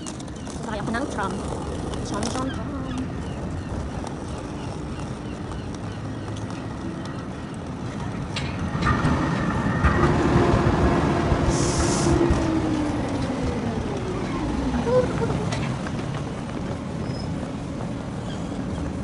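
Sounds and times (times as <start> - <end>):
street noise: 0.0 - 19.0
tram electric whine and rumble: 0.0 - 19.0.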